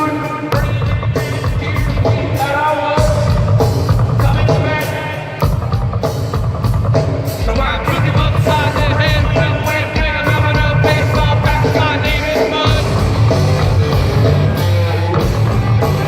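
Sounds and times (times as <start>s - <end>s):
drum kit: 0.0s - 16.0s
live rock band playing: 0.0s - 16.0s
heavy bass guitar: 0.5s - 16.0s.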